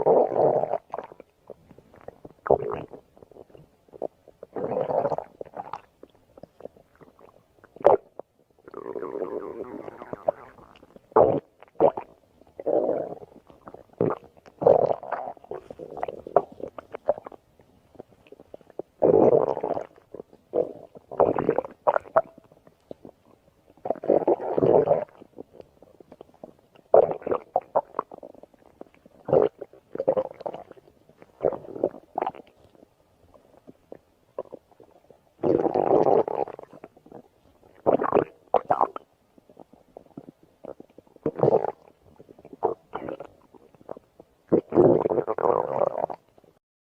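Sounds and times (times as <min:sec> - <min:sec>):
stomach growling: 0:00.0 - 0:46.6.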